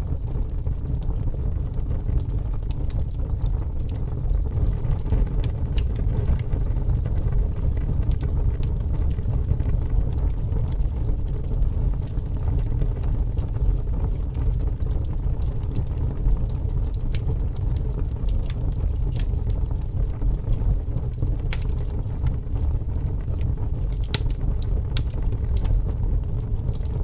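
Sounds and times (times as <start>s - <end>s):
fire crackles and pops: 0.0s - 27.0s
fire rumbling: 0.0s - 27.0s.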